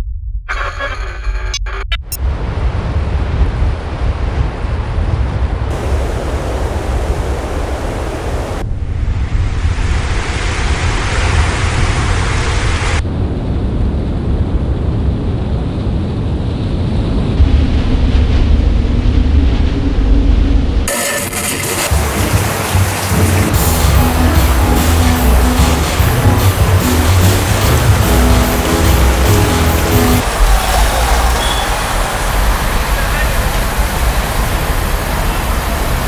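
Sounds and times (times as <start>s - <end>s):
heavy low rumble: 0.0s - 20.9s, 21.9s - 36.0s.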